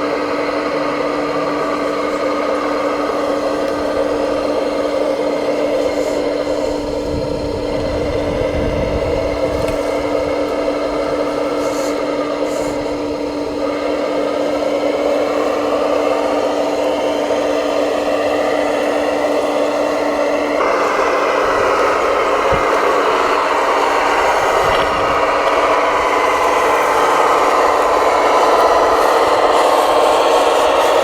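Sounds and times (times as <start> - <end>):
electric motor whine: 0.0 - 31.0.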